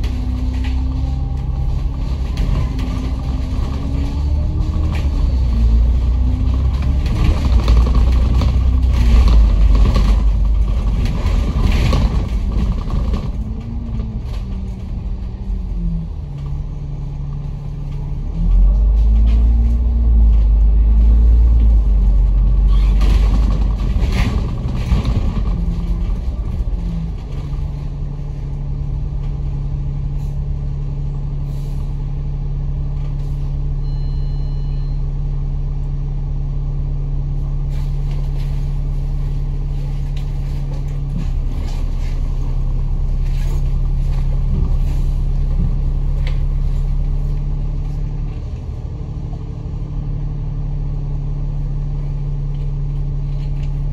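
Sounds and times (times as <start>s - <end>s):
bus diesel engine: 0.0s - 53.9s.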